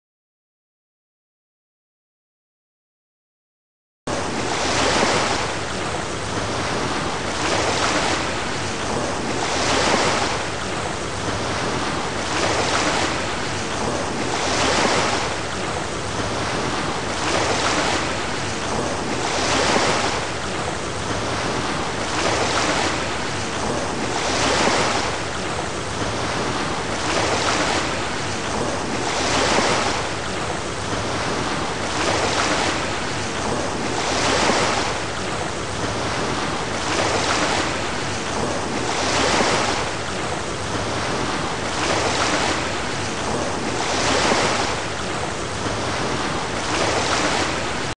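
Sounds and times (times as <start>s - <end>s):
ocean waves: 4.1s - 47.9s.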